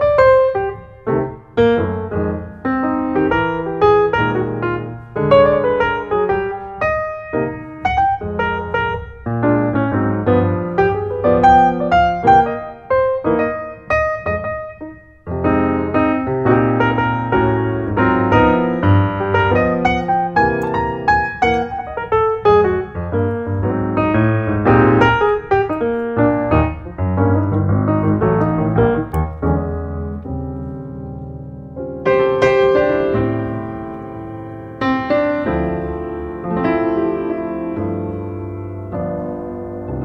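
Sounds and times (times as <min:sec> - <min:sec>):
piano music: 0:00.0 - 0:40.0.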